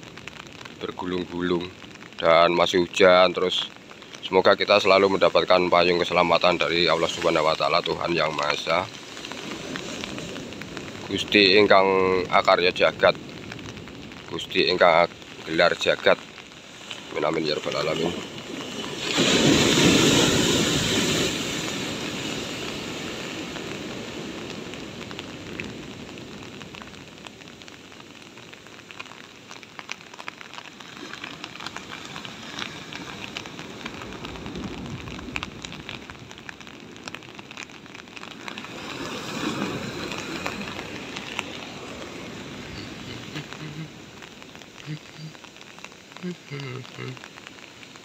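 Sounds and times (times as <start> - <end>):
rain ticking: 0.0 - 48.0
heavy ocean surf crashing: 0.9 - 27.9, 30.6 - 45.5.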